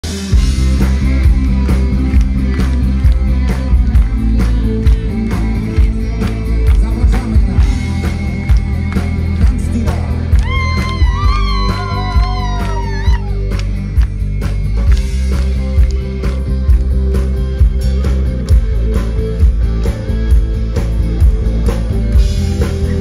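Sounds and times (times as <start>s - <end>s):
drum kit beat: 0.0s - 23.0s
electric guitars and bass: 0.0s - 23.0s.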